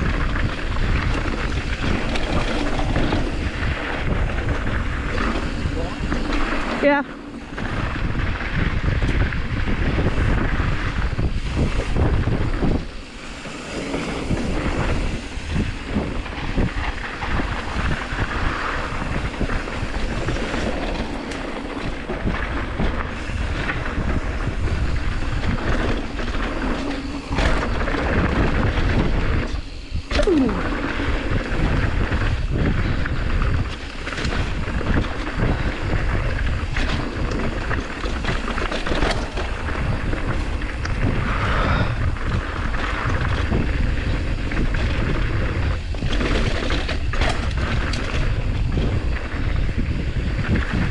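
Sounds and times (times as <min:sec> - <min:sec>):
bike rattling and knocking: 0:00.0 - 0:50.9
wind buffeting microphone: 0:00.0 - 0:50.9.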